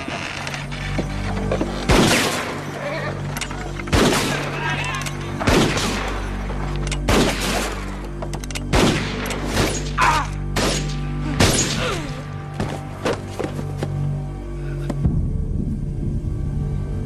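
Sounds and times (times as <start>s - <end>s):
held film score chord: 0.0s - 17.0s.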